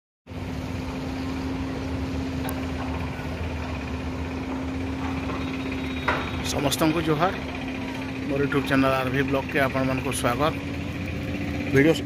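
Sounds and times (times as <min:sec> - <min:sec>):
large engine droning: 0:00.3 - 0:12.0.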